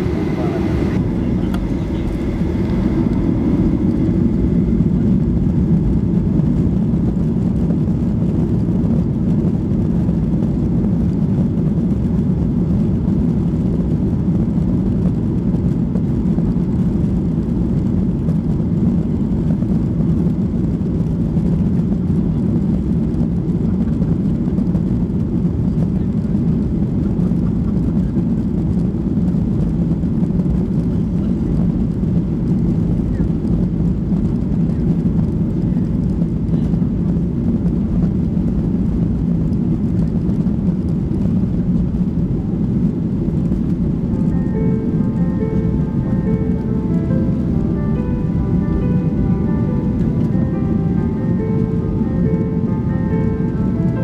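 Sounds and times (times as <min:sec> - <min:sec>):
jet engine cabin roar: 0:00.0 - 0:54.0.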